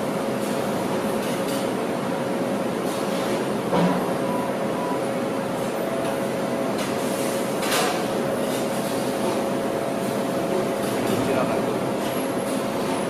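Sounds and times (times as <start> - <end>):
industrial machinery hum: 0.0 - 13.0.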